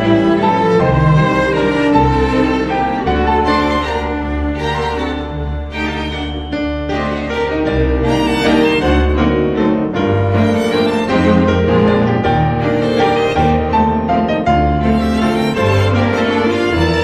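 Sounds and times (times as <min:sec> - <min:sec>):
bowed strings: 0:00.0 - 0:17.0
piano: 0:00.0 - 0:17.0.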